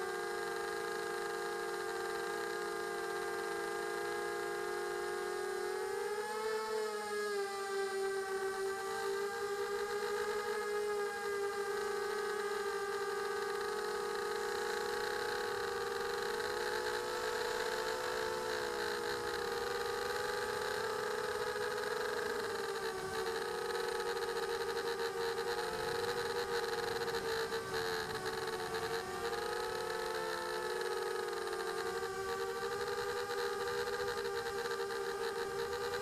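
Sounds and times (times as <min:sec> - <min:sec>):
drone propellers buzzing whine: 0:00.0 - 0:36.0.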